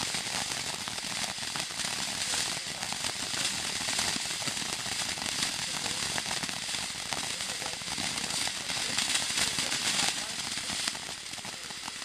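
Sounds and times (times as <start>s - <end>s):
firework sparks hissing and crackling: 0.0s - 12.0s.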